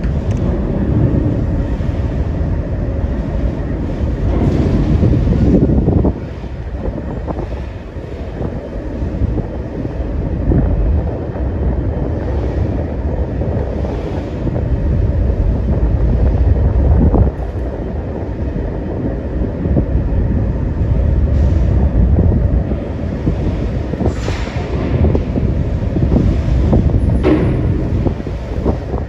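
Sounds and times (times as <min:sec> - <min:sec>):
heavy low rumble of ferry: 0:00.0 - 0:29.0
wind buffeting microphone: 0:00.0 - 0:29.0.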